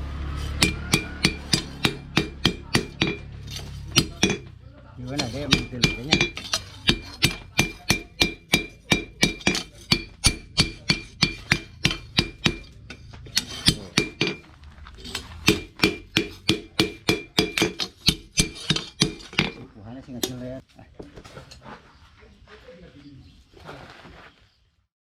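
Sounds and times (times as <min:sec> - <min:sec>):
hammer striking steel on anvil: 0:00.2 - 0:20.5.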